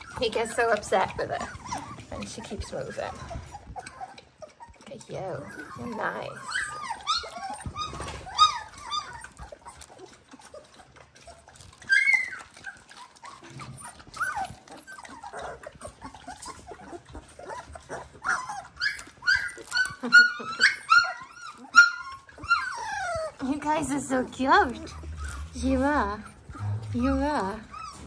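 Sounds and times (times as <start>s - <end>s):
puppies whimpering and squeaking: 0.0s - 28.0s.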